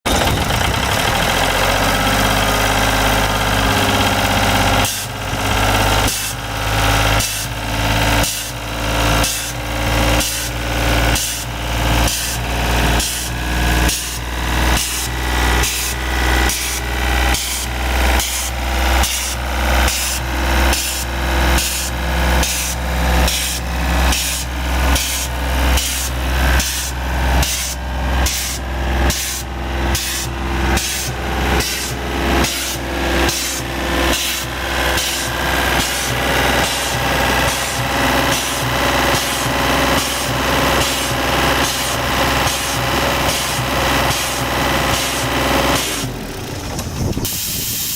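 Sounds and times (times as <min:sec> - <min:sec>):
diesel compressor engine pulsing: 0:00.0 - 0:47.9.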